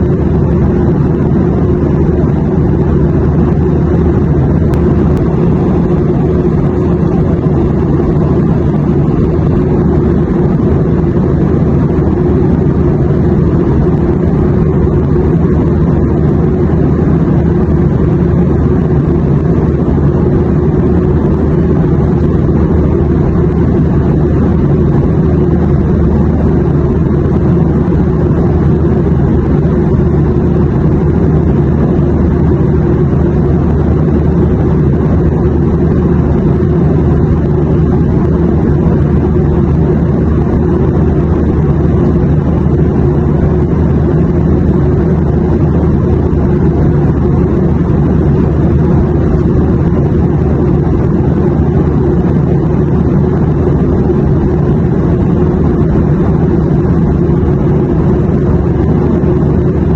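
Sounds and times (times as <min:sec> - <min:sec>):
jet cabin rumble and hiss: 0:00.0 - 0:59.9.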